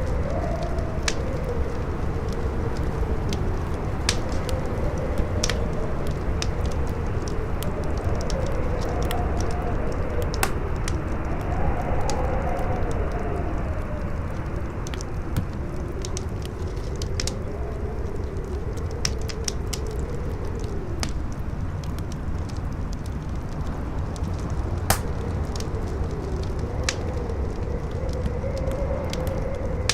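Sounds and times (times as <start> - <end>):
campfire crackling and popping: 0.0 - 29.9
wind howling: 0.0 - 29.9.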